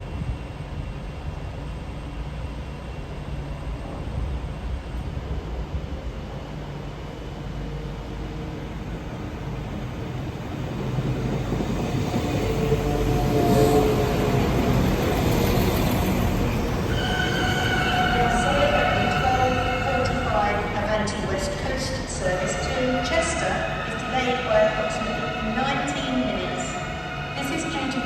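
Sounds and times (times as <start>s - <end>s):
passenger train rumbling: 0.0s - 28.0s
train whine: 0.0s - 28.0s.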